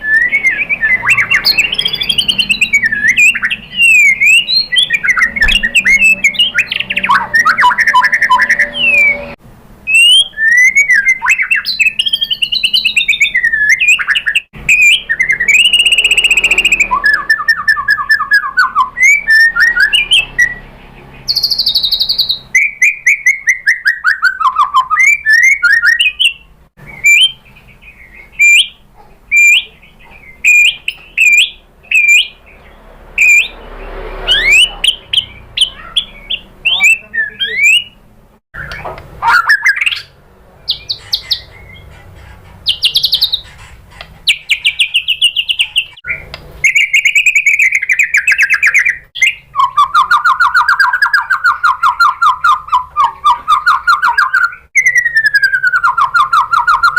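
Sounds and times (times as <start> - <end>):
bird singing whistled phrases: 0.0 - 20.6, 21.3 - 32.4, 33.2 - 33.6, 34.3 - 38.0, 38.6 - 40.1, 44.3 - 56.9.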